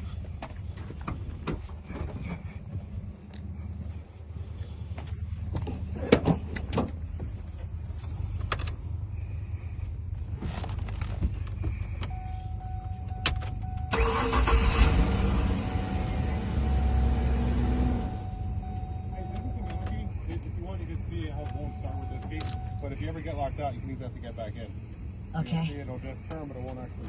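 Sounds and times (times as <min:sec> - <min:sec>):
car engine cranking and running: 0:00.0 - 0:27.0.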